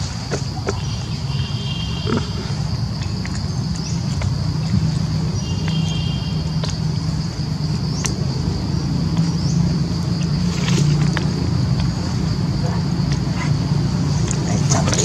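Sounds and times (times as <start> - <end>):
insect drone: 0.0 - 15.0
low engine-like hum: 0.0 - 15.0.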